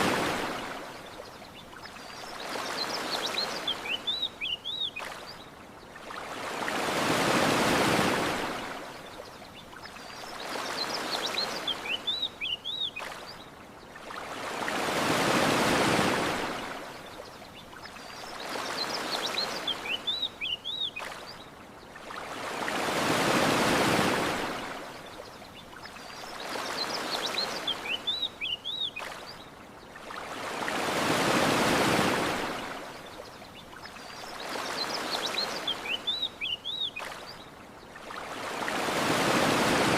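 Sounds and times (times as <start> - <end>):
ocean waves on sandy shore: 0.0 - 39.9.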